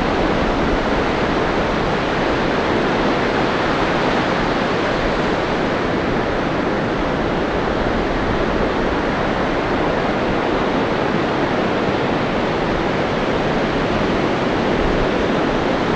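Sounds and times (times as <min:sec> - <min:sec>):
ocean surf breaking on beach: 0:00.0 - 0:15.9.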